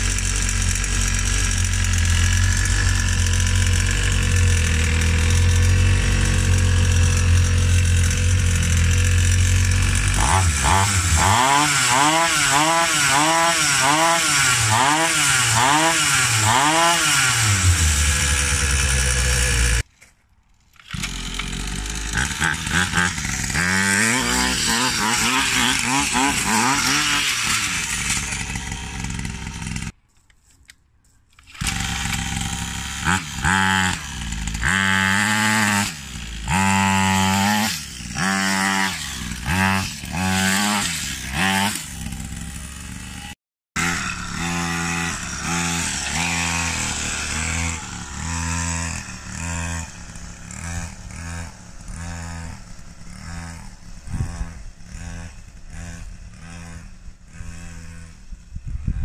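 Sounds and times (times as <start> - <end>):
small two-stroke engine revving: 0.0 - 19.9, 20.8 - 30.0, 31.4 - 59.0
wheel spinning in loose dirt: 0.0 - 30.2, 31.0 - 59.0.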